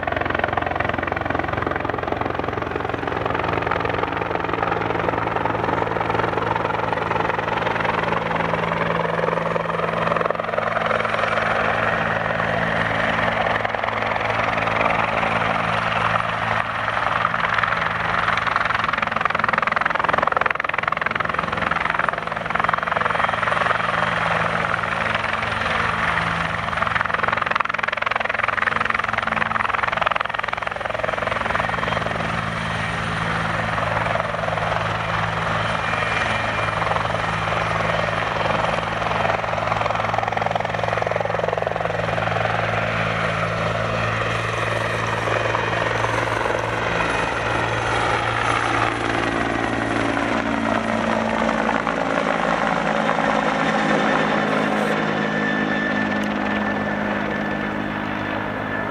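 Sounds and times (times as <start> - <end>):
helicopter turbine and rotor: 0.0 - 58.9.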